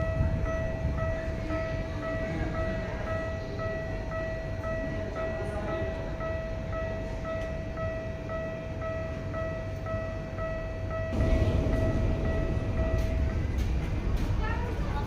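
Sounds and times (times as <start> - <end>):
railroad crossing alarm ringing: 0.0 - 15.0.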